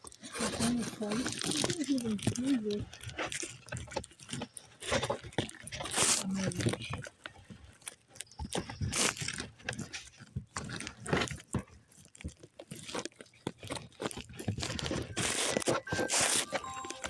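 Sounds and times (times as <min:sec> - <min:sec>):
birds cracking seed: 0:00.1 - 0:11.6, 0:12.2 - 0:16.5.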